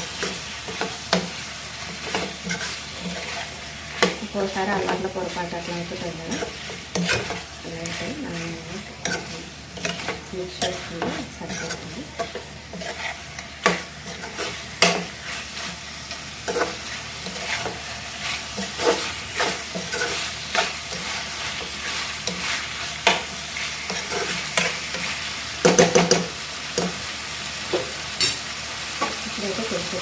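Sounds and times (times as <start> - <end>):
spoon scraping and knocking pan: 0.0 - 27.1
curry sizzling in a pan: 0.0 - 30.0.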